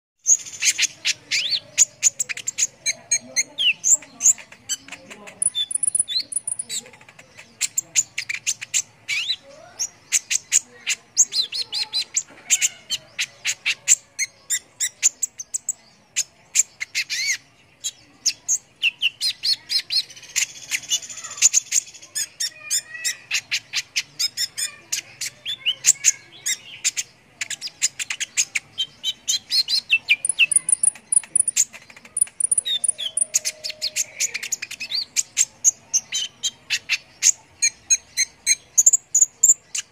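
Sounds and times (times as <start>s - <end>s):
songbirds chirping: 0.2s - 39.9s.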